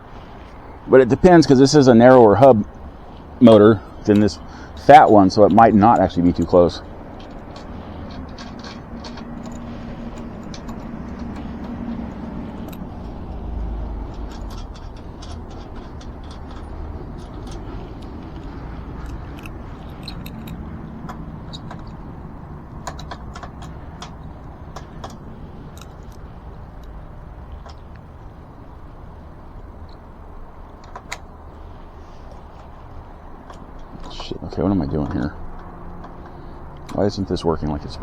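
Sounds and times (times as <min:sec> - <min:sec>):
steady low rumble: 0:00.0 - 0:38.0
metal parts clicking and scraping: 0:00.2 - 0:37.3.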